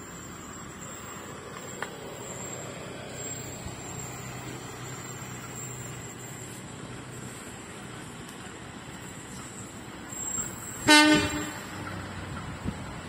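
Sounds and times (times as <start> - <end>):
diesel locomotive engine hum: 0.0 - 13.0.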